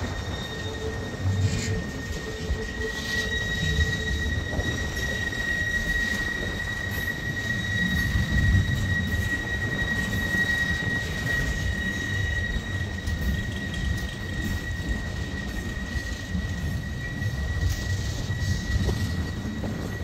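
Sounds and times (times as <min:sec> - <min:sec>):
high-pitched wheel squeal: 0:00.0 - 0:20.0
train wheels rumbling on rail: 0:00.0 - 0:20.0.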